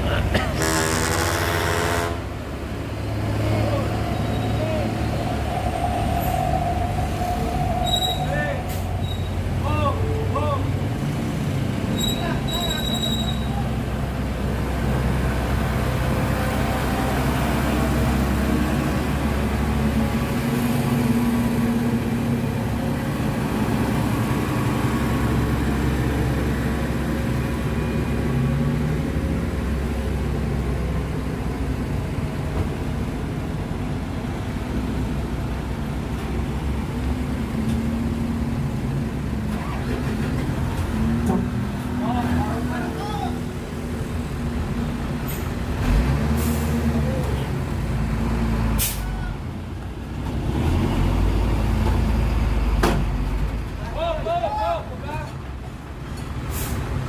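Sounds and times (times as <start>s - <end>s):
truck engines in traffic: 0.0s - 57.0s.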